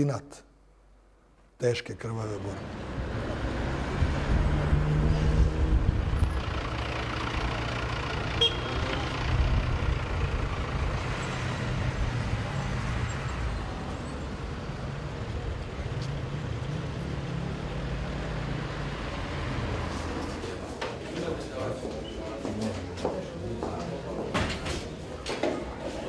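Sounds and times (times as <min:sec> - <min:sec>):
traffic engines humming: 0:02.1 - 0:26.0.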